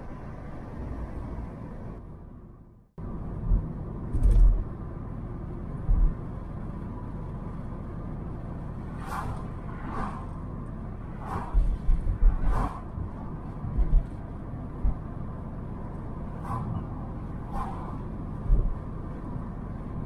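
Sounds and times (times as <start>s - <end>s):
car road noise rumble: 0.0s - 20.0s
passing vehicles swishing: 0.0s - 20.0s.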